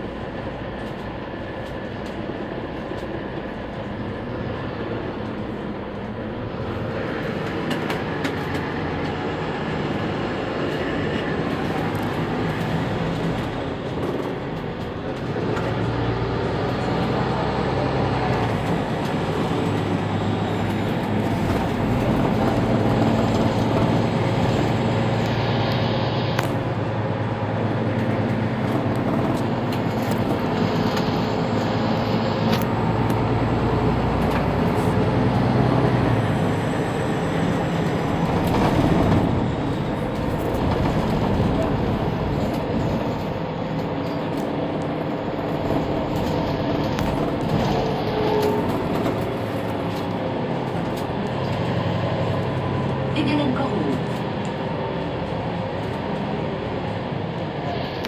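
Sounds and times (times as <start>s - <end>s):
bus engine: 0.0s - 58.0s
road noise inside bus: 0.0s - 58.0s.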